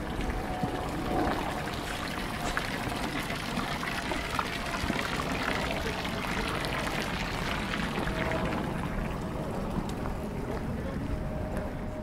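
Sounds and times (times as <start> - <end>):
water pouring and splashing: 0.0 - 9.9
small water drips: 0.0 - 10.1.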